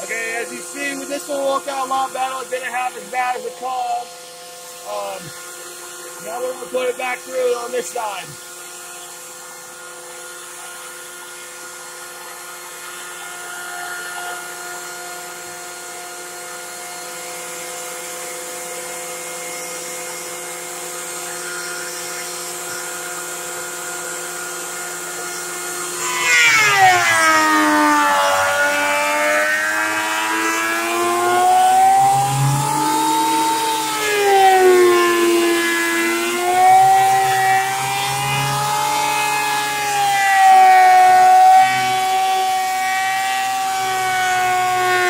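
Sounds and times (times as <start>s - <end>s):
planer cutting board: 0.0s - 45.0s
planer motor whine: 0.0s - 45.0s.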